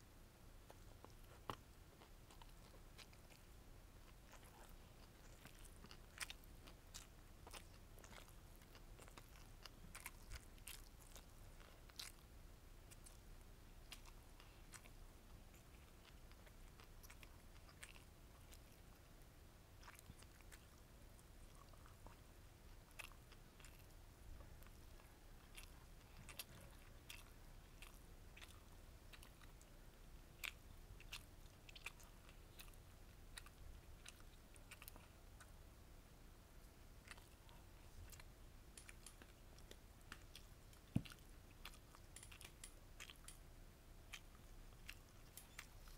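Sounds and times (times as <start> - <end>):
person chewing crunchy food: 0.6 - 19.1, 19.8 - 35.5, 37.0 - 43.4, 44.1 - 45.9.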